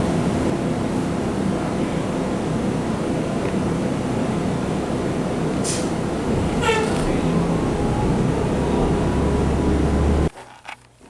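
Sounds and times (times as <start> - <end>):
loud rumbling background noise: 0.0 - 10.3.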